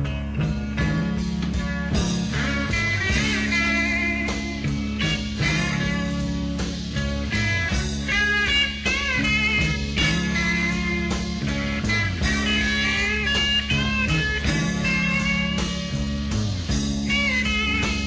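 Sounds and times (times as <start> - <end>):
bass guitar: 0.0 - 18.0
drums: 0.0 - 18.0
electric lead guitar: 0.0 - 18.0.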